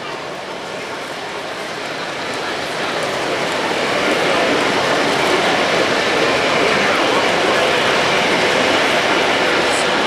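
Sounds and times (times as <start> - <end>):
model train rolling on track: 0.0 - 10.0.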